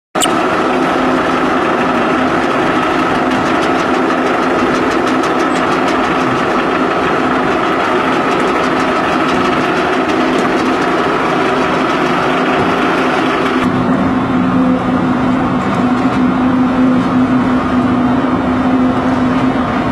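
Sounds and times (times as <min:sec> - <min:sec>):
concrete mixing machinery drone: 0:00.2 - 0:19.9.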